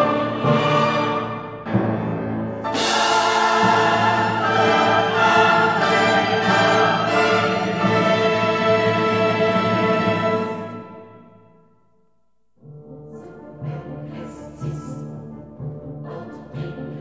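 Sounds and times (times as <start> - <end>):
orchestral film music: 0.0 - 17.0.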